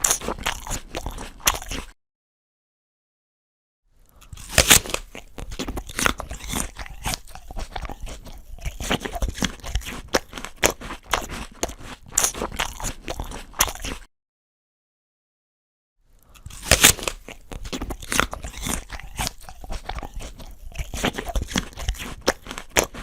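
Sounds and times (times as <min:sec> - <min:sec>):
crunchy chewing: 0:00.0 - 0:02.0, 0:04.0 - 0:14.1, 0:16.1 - 0:23.0
person biting an apple: 0:00.0 - 0:02.0, 0:04.1 - 0:14.1, 0:16.2 - 0:23.0.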